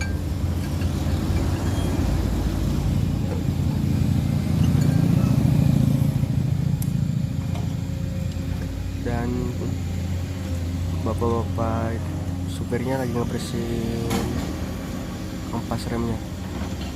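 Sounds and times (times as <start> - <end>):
vehicle engine running: 0.0 - 16.9.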